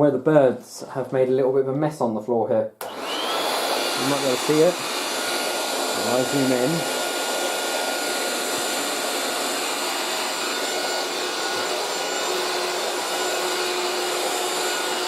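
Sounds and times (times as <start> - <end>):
handheld vacuum cleaner running: 2.8 - 15.0.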